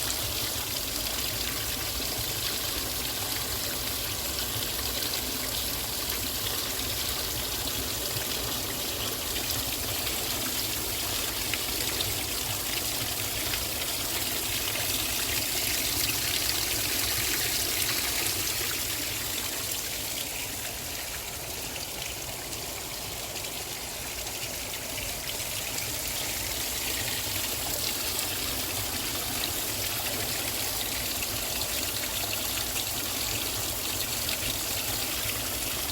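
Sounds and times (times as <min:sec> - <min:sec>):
trickling rainwater: 0:00.0 - 0:35.9.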